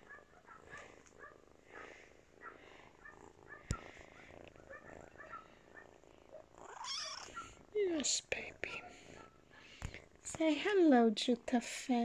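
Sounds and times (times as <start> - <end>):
kitten purring faintly: 0.0 - 12.0.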